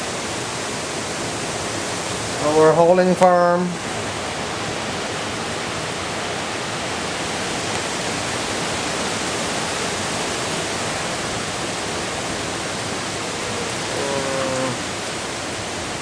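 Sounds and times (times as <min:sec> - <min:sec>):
hurricane wind blowing: 0:00.6 - 0:16.0.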